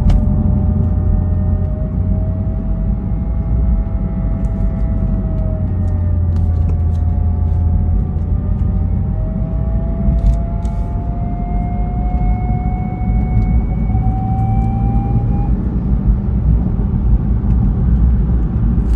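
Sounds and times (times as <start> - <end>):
thin whine: 0.0 - 16.1
car engine rumbling: 0.0 - 18.9.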